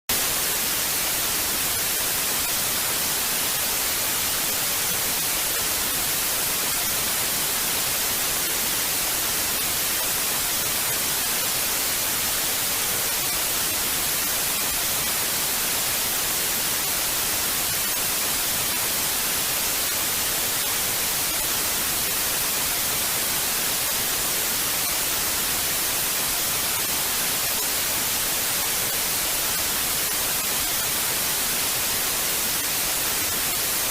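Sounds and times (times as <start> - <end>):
television static hiss: 0.1 - 33.9.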